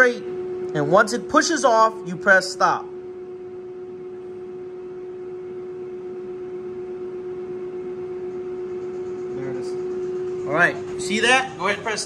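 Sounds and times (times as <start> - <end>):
milling machine spindle hum: 0.0 - 12.0.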